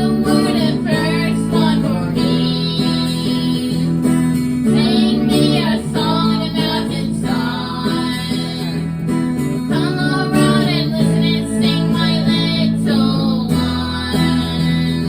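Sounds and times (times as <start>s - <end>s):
acoustic guitar: 0.0s - 15.0s
woman singing with vibrato: 0.0s - 15.0s.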